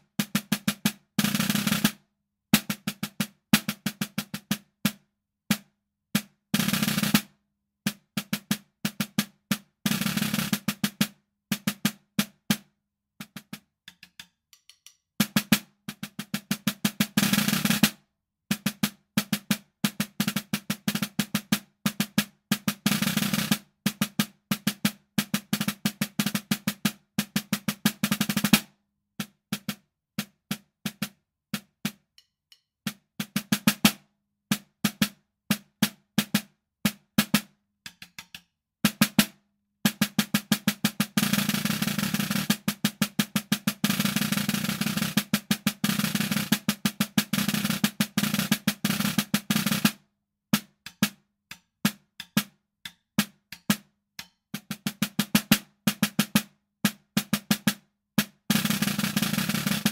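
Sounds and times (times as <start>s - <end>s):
snare drum played with sticks: 0.0s - 59.9s.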